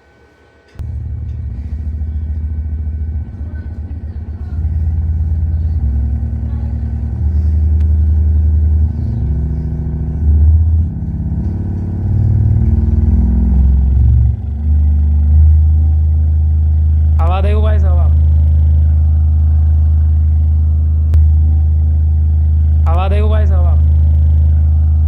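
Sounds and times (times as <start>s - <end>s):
deep bass test tones: 0.8s - 25.0s.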